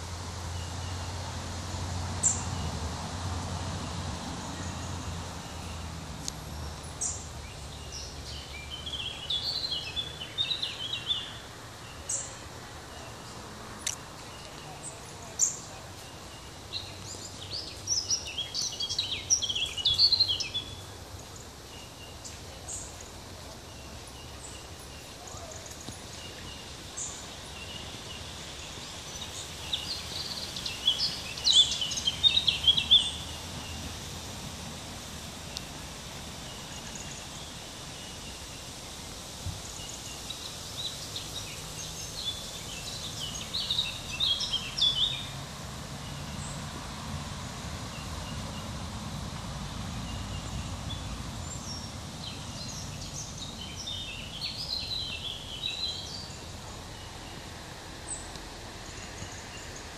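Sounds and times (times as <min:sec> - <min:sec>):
songbird warbling chirps: 0:04.5 - 0:34.0, 0:36.4 - 0:45.3, 0:50.0 - 0:59.9.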